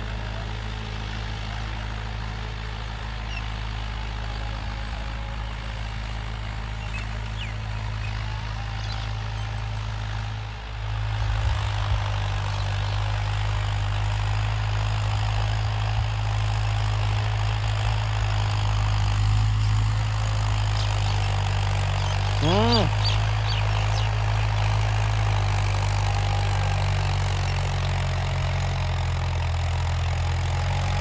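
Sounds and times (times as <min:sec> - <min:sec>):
rotary tiller through soil: 0:00.0 - 0:31.0
tractor diesel engine under load: 0:00.0 - 0:31.0.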